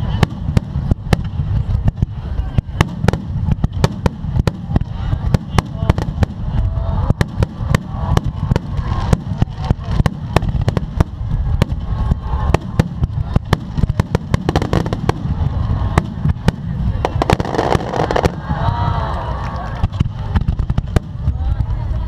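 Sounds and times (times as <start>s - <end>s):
low rumble of booms: 0.0s - 19.2s.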